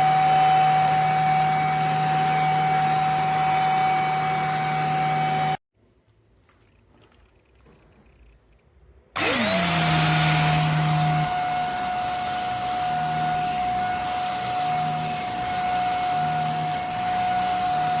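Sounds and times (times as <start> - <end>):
vacuum cleaner motor whining: 0.0 - 5.6, 9.2 - 18.0.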